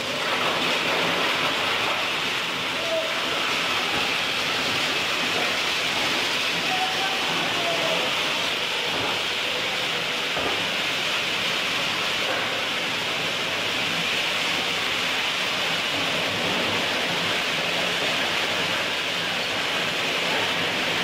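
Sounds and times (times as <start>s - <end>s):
hissing machinery: 0.0s - 21.0s.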